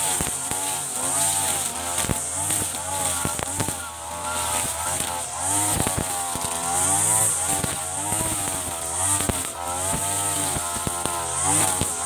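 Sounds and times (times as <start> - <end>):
brush cutter engine running: 0.0 - 12.0.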